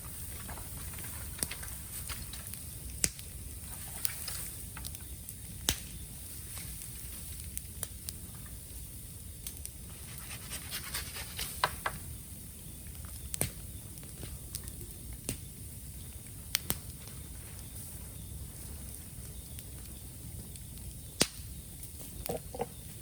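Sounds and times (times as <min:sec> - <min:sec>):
bamboo popping and crackling: 0:00.0 - 0:08.6, 0:10.9 - 0:23.0
fire rumbling: 0:00.0 - 0:23.0.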